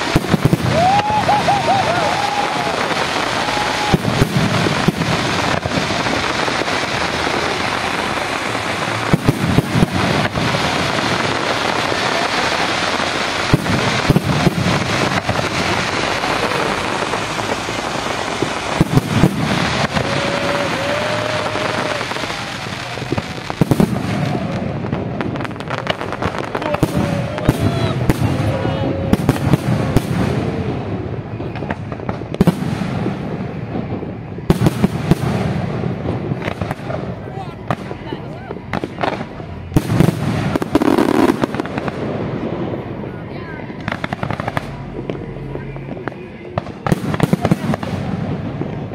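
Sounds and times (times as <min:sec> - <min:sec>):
fireworks bangs: 0:00.0 - 0:48.9
fireworks crackling: 0:00.0 - 0:48.9.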